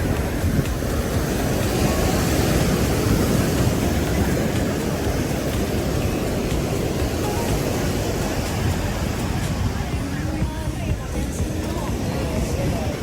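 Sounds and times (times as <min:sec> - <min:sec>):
surf rushing: 0:00.0 - 0:13.0
wind buffeting microphone: 0:00.0 - 0:13.0.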